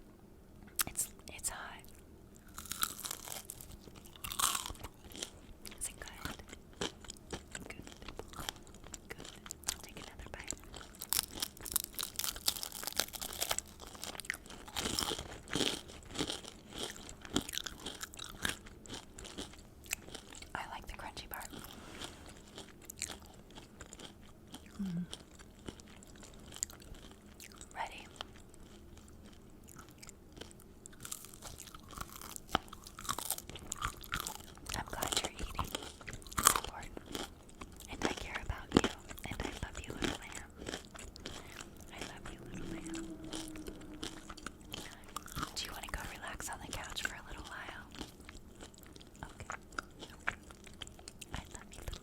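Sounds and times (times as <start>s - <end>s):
crunchy tortilla bites and chewing: 2.4s - 20.5s, 21.4s - 52.0s.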